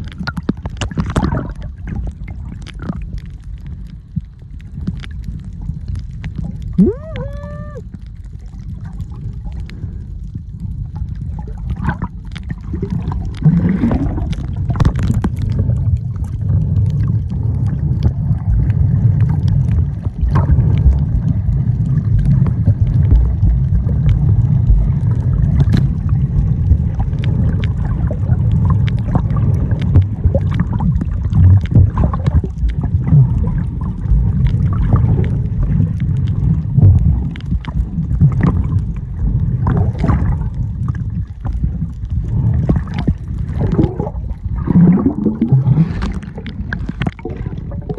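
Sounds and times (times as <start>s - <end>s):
underwater clicks and crackles: 0.0s - 47.9s
underwater low rumble: 0.0s - 47.9s.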